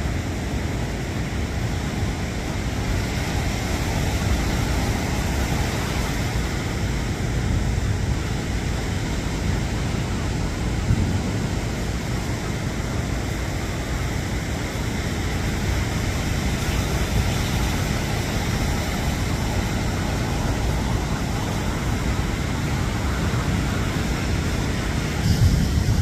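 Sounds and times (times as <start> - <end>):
ocean surf on sandy beach: 0.0 - 26.0.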